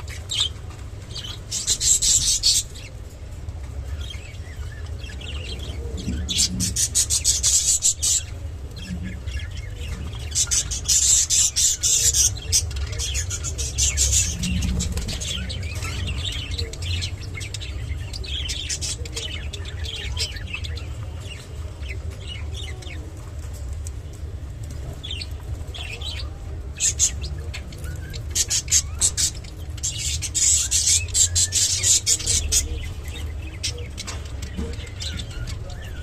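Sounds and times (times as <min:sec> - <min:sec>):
budgerigars chirping: 0:00.0 - 0:02.9, 0:04.0 - 0:23.0, 0:25.1 - 0:36.0.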